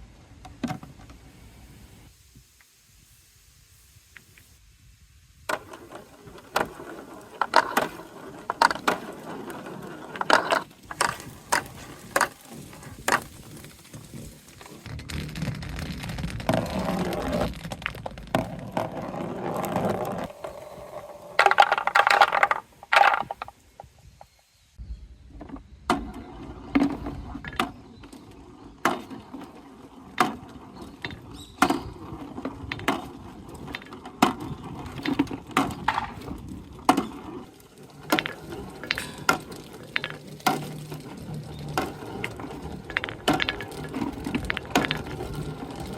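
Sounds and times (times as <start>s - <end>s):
balls rolling through hose: 5.3s - 24.4s, 25.3s - 45.9s
balls clattering through marble run: 5.5s - 23.9s, 25.5s - 45.9s.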